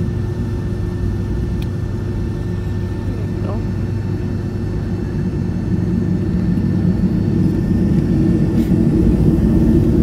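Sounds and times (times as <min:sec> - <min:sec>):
jet airliner cabin rumble: 0:00.0 - 0:10.0.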